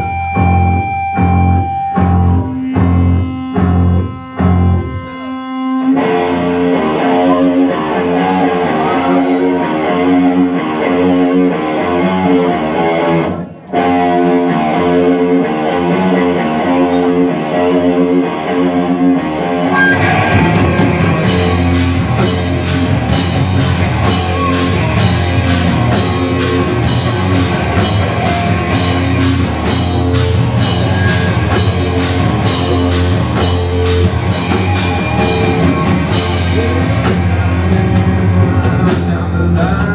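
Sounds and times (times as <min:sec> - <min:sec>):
electric guitar riff: 0:00.0 - 0:39.9
rock band playing: 0:00.0 - 0:39.9.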